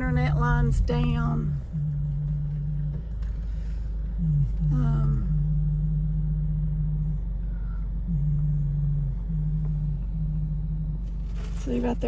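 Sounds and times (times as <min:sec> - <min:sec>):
car engine hum: 0:00.0 - 0:12.0
road rumble: 0:00.0 - 0:12.0.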